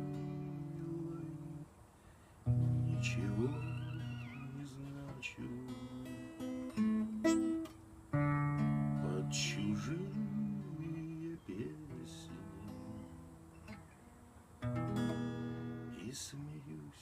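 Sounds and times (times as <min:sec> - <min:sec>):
acoustic guitar strumming chords: 0:00.0 - 0:01.8, 0:02.4 - 0:17.0.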